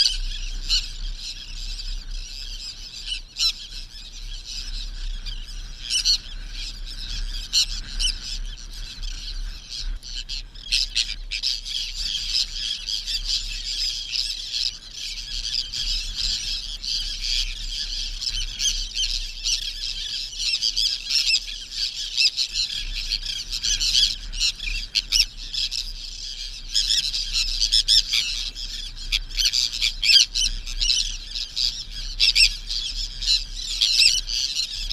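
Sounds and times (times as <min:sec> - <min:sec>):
birds squawking chirps: 0:00.0 - 0:34.9.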